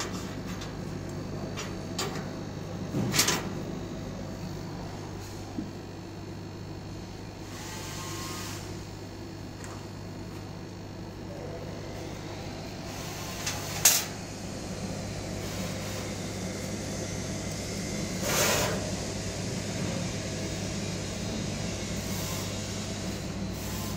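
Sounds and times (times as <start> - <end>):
machine hum: 0.0 - 23.9.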